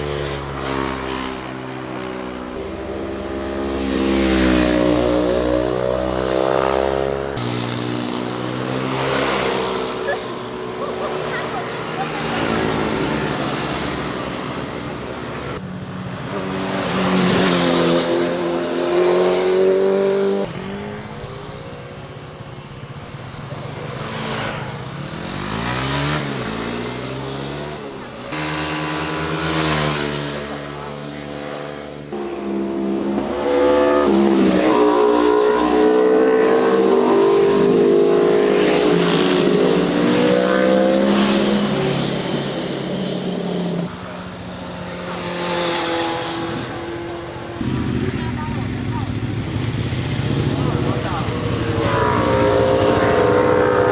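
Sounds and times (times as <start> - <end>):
motorcycles passing revving: 0.0 - 53.9.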